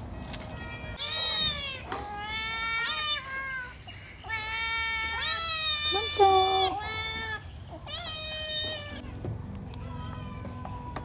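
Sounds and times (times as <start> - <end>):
cat meowing: 0.2 - 9.1.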